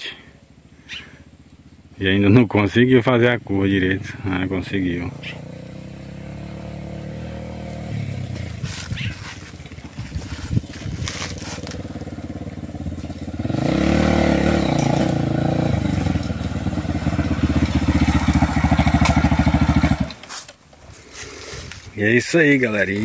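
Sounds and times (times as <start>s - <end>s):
dirt bike engine: 0.0s - 23.0s.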